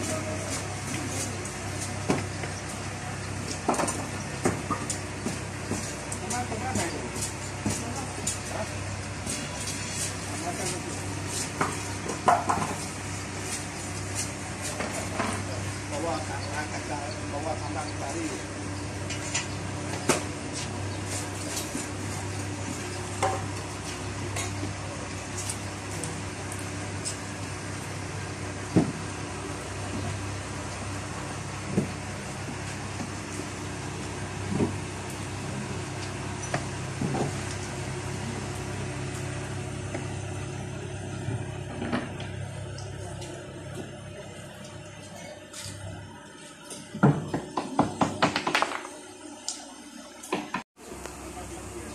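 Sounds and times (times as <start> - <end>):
diesel engine idling: 0.0 - 46.3, 50.8 - 51.9
steady low hum: 0.0 - 51.9.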